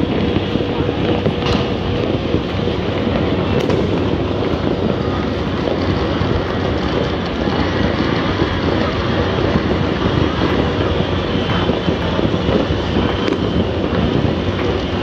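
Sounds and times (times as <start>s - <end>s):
distant fireworks crackling: 0.0s - 15.0s.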